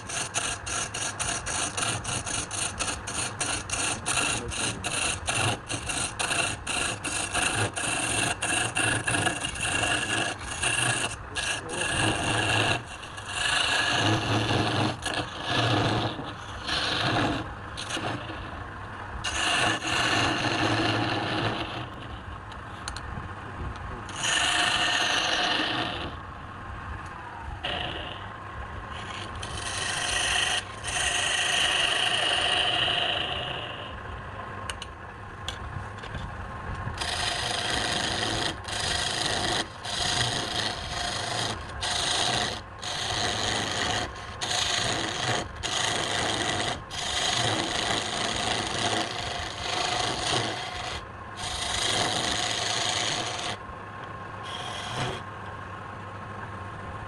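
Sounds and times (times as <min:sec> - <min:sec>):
lathe humming: 0:00.0 - 0:23.0, 0:24.1 - 0:26.3, 0:27.0 - 0:34.0, 0:36.9 - 0:55.5
turning tool scraping wood: 0:00.0 - 0:23.0, 0:24.0 - 0:26.3, 0:27.6 - 0:34.0, 0:36.9 - 0:53.6, 0:54.4 - 0:55.3.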